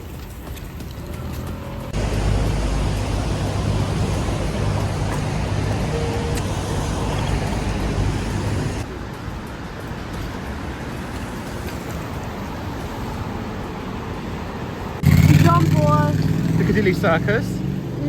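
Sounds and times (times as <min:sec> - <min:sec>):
street traffic: 0:00.0 - 0:18.0
large vehicle engine humming: 0:00.1 - 0:18.0.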